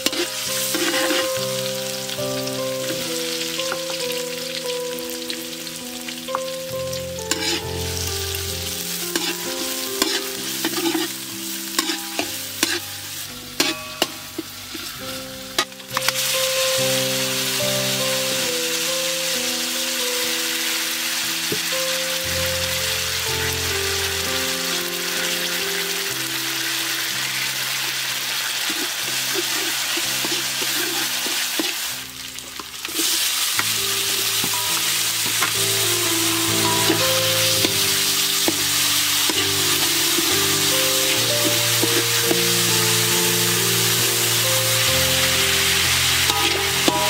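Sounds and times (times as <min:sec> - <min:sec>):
food sizzling in hot oil: 0:00.0 - 0:47.0
soft background music: 0:00.0 - 0:47.0.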